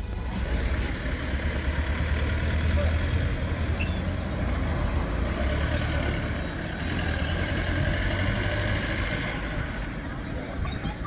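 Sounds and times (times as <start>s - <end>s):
street noise: 0.0s - 11.0s
vehicle engine rumbling: 0.0s - 11.0s.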